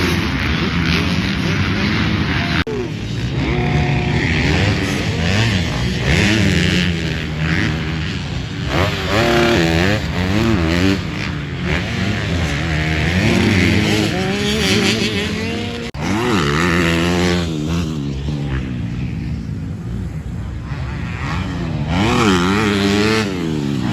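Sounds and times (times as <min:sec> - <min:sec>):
dirt bike engines revving: 0:00.0 - 0:23.9.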